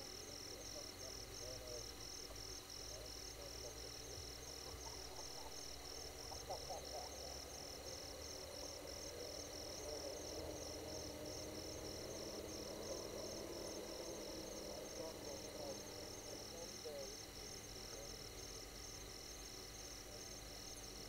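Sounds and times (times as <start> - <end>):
frogs chorus: 0.0 - 21.0
insects trilling: 0.0 - 21.0.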